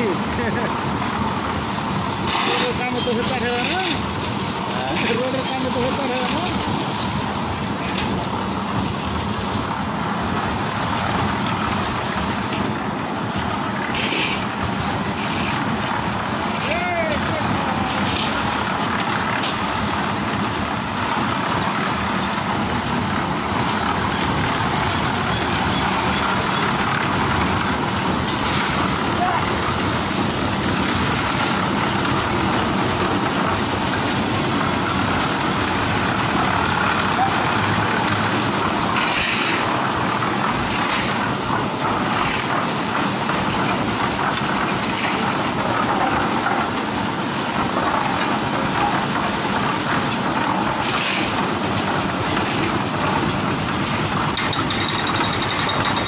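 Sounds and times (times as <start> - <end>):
concrete mixer running: 0.0 - 56.0.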